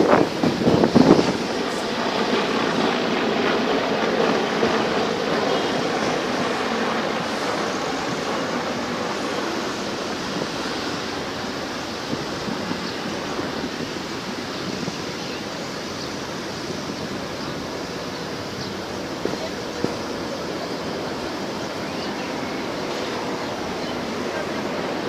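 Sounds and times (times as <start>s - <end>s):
military aircraft engine rushing: 0.0s - 25.0s.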